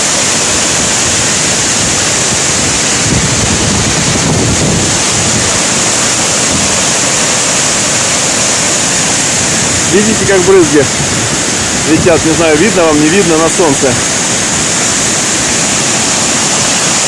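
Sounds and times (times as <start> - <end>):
waterfall roaring: 0.0 - 17.0
wind buffeting microphone: 0.3 - 17.0.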